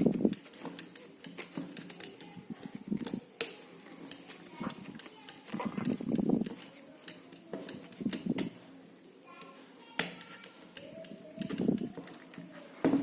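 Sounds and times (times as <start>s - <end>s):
small parts clicking and tapping: 0.0s - 8.6s, 9.3s - 13.0s.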